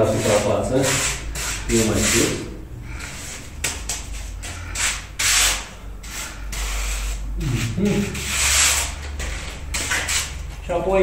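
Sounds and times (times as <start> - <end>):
tool scraping mortar: 0.0 - 10.5.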